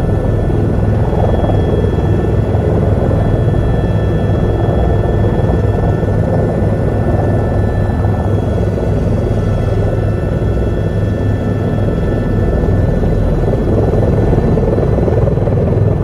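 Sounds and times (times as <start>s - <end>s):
helicopter engine and rotor drone: 0.0s - 16.0s
high turbine whine: 0.0s - 16.0s.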